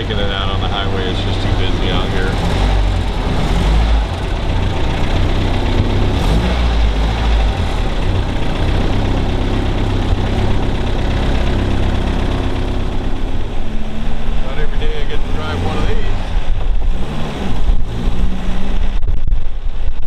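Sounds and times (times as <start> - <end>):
car engine running: 0.0 - 19.9.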